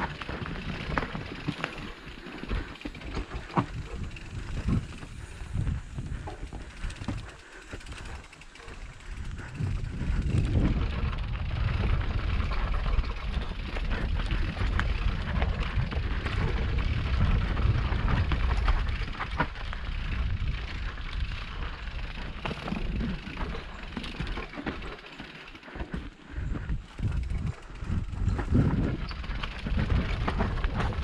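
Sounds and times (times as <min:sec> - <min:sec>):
wind rumble on microphone: 0:00.0 - 0:25.0, 0:25.7 - 0:31.0
bike clicks and rattles: 0:00.0 - 0:31.0
bike tyres rolling on dirt: 0:00.0 - 0:31.0.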